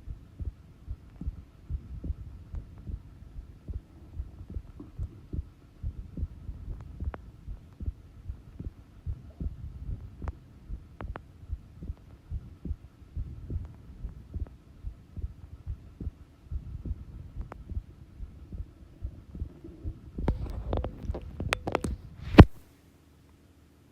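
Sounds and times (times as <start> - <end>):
heart beating slowly: 0.0 - 22.6.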